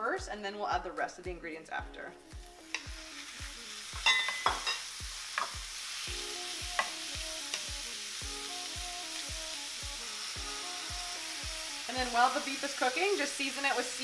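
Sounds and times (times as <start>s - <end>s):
background music with beat: 0.0s - 12.4s
meat sizzling in a skillet: 2.2s - 14.0s.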